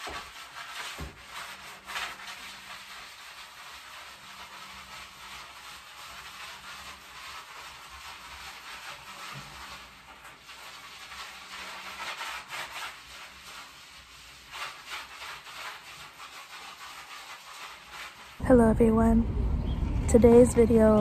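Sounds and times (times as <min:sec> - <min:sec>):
scrubbing ceramic tiles: 0:00.0 - 0:18.4.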